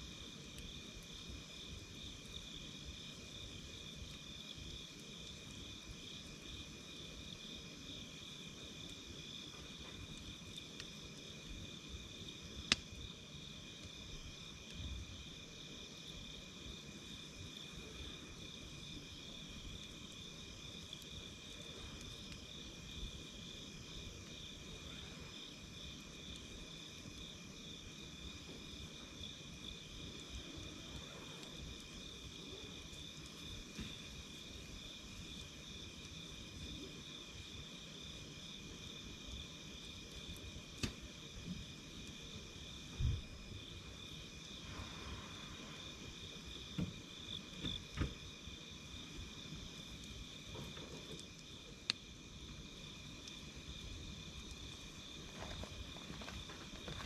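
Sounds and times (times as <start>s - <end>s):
campfire crackling: 0.0s - 57.0s
night insects chirping: 0.0s - 57.0s.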